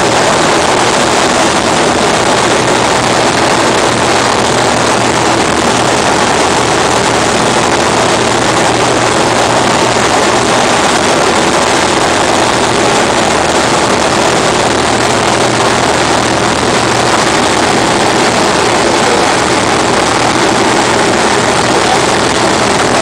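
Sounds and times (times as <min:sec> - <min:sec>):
light aircraft engine drone: 0:00.0 - 0:23.0.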